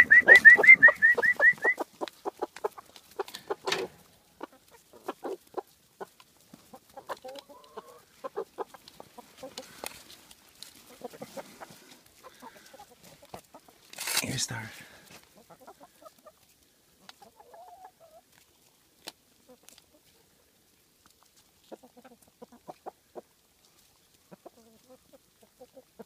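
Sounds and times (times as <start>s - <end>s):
hens clucking softly: 0.0s - 13.9s, 14.6s - 26.0s
hens pecking at a tray: 0.0s - 14.1s, 14.7s - 26.0s.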